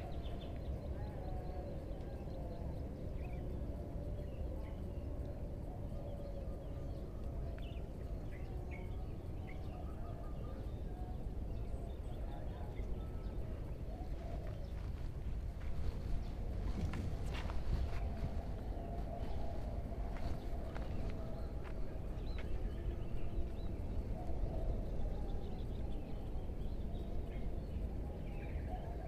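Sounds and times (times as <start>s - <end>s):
birds chirping: 0.0s - 29.0s
faint wavering hum: 0.0s - 29.0s.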